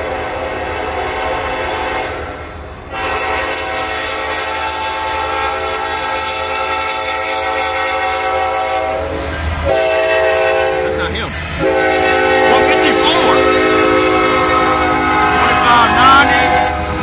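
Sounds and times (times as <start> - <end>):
locomotive air horn blasts: 0.0 - 17.0.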